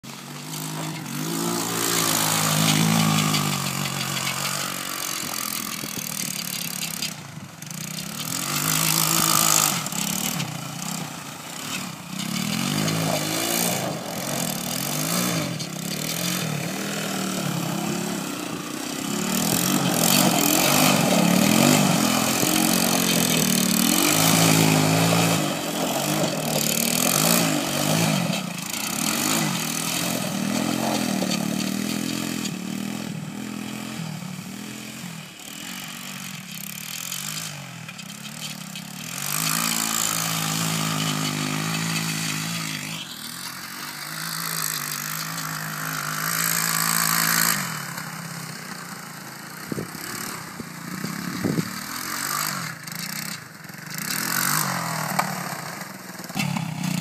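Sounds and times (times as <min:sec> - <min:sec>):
engine revving: 0:00.0 - 0:57.0.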